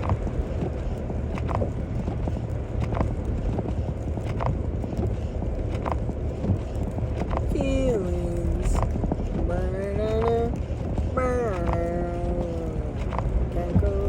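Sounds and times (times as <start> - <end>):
engine and tyres rumbling: 0.0 - 14.0
windshield wipers knocking: 0.0 - 14.0.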